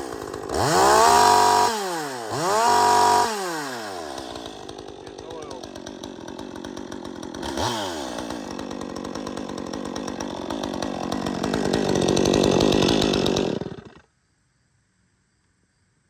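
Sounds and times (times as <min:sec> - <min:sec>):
chainsaw revving: 0:00.0 - 0:14.1.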